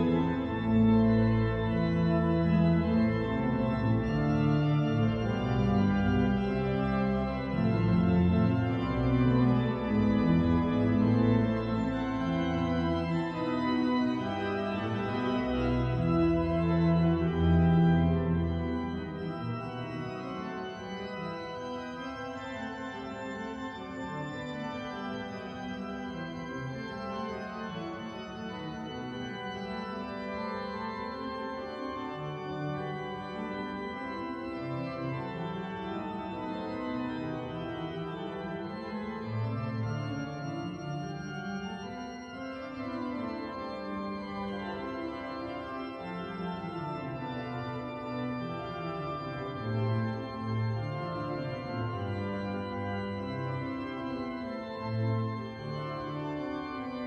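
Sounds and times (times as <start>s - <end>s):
pipe organ playing: 0.0s - 57.0s.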